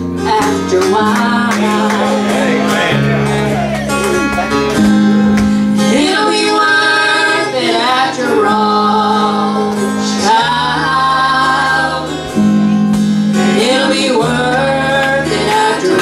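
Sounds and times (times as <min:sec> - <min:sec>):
gospel song with guitar and bass: 0:00.0 - 0:16.0.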